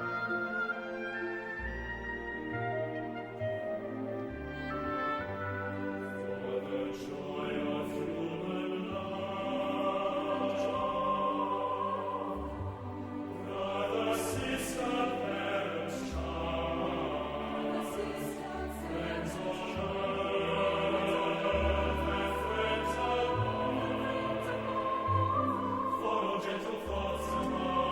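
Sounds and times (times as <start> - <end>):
choir singing chords: 0.0 - 27.9.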